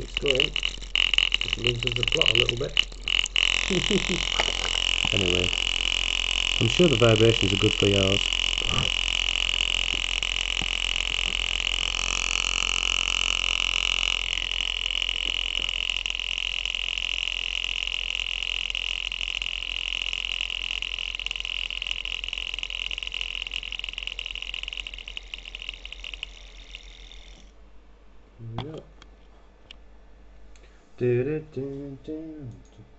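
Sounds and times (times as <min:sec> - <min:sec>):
thermoacoustic engine tone and pulsing: 0:00.0 - 0:27.8.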